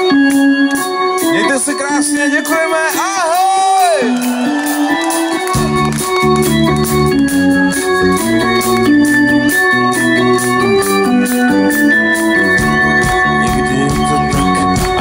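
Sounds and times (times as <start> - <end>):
electronic keyboard chords: 0.0 - 15.0
steady beat: 0.8 - 15.0.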